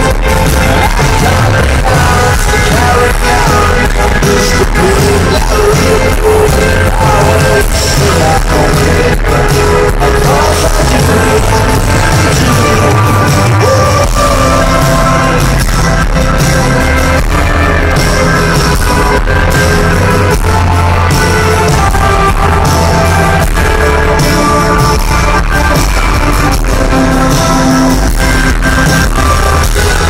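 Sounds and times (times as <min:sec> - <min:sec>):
live rock band: 0:00.0 - 0:30.0
person singing: 0:00.0 - 0:30.0.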